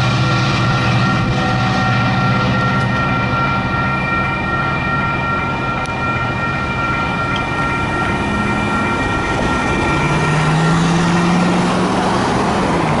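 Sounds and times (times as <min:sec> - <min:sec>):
crossing warning bell ringing: 0:00.0 - 0:13.0
traffic rumble: 0:00.0 - 0:13.0
train departing: 0:00.0 - 0:13.0.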